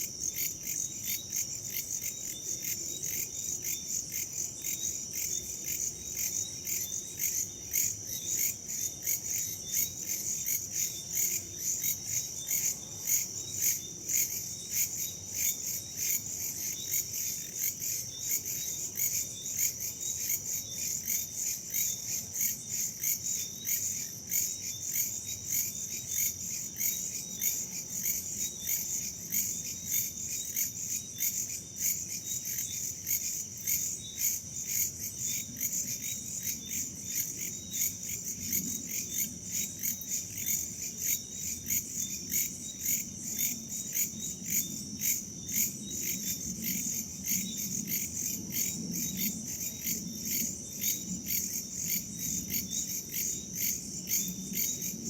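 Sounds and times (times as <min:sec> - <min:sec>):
crickets and insects chirping: 0:00.0 - 0:55.0.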